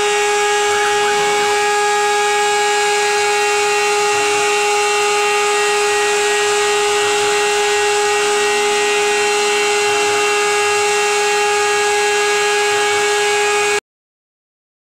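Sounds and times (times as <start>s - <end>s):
vacuum extraction hiss: 0.0s - 13.7s
router spindle high whine: 0.0s - 13.8s.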